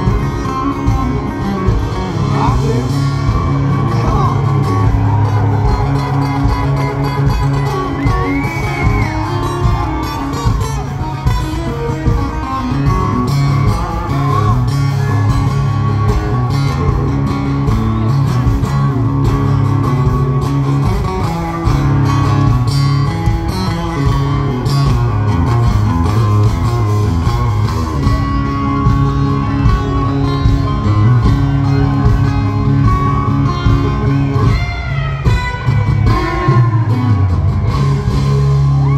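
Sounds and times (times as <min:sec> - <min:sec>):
country band playing: 0:00.0 - 0:38.9
lead guitar bending notes: 0:00.0 - 0:38.9.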